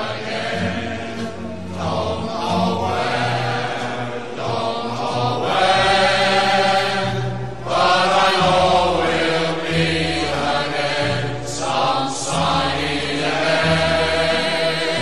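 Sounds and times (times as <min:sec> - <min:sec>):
choir holding long chords: 0:00.0 - 0:15.0
orchestral bass: 0:00.0 - 0:15.0.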